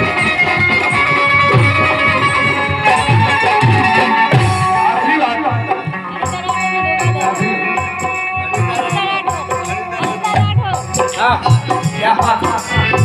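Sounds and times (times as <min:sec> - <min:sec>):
hand drum beat: 0:00.0 - 0:13.0
held melody tones: 0:00.0 - 0:13.0.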